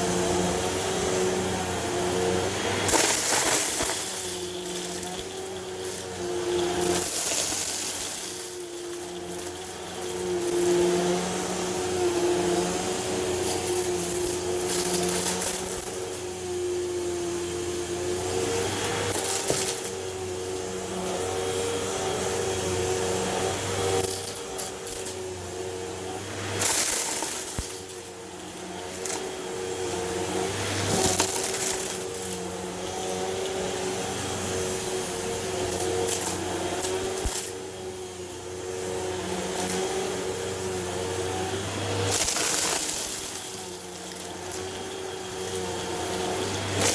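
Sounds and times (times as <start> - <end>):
upright vacuum cleaner running: 0.0 - 46.9.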